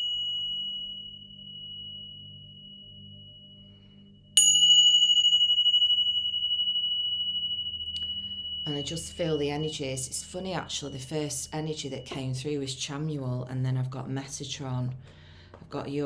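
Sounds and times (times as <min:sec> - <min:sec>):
tingsha cymbals ringing: 0:00.0 - 0:13.5.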